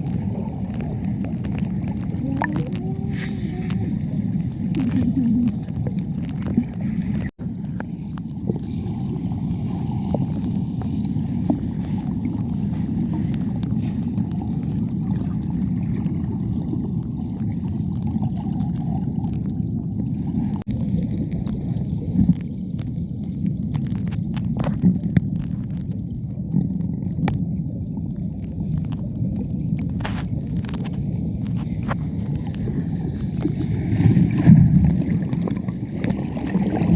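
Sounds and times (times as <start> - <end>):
muffled rush of water: 0.0 - 36.9.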